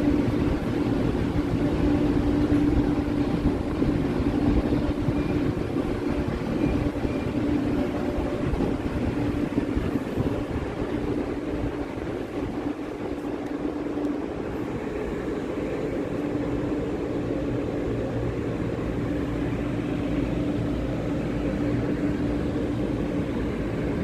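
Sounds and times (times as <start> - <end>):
standing train humming: 0.0 - 24.0.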